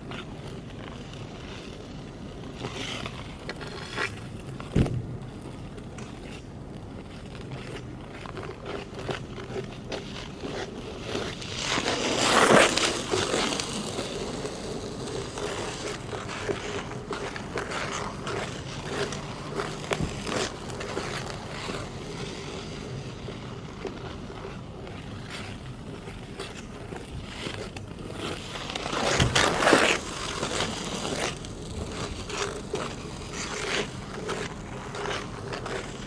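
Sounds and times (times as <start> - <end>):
ice skate blades scraping ice: 0.0 - 36.0.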